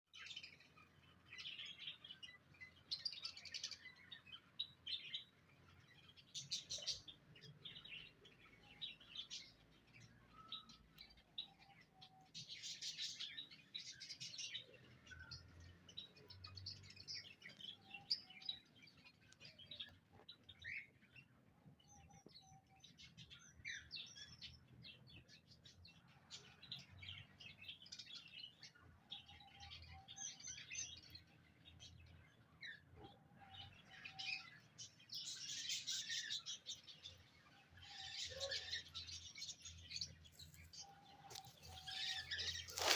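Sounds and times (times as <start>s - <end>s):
small birds chirping and trilling: 0.1s - 42.9s.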